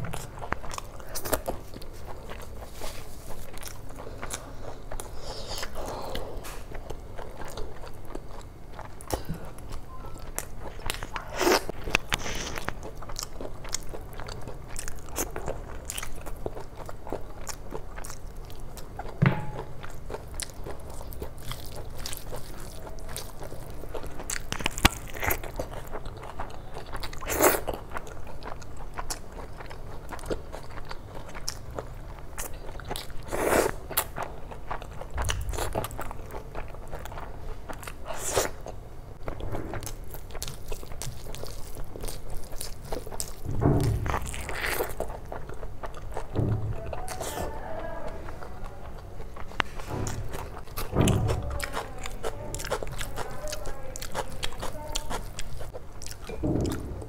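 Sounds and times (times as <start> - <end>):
chewing and wet mouth sounds: 0.0 - 57.0.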